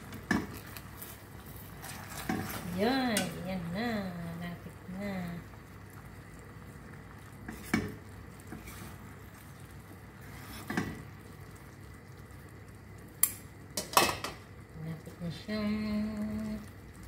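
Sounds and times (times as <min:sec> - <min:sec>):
sauce simmering hiss: 0:00.0 - 0:17.0.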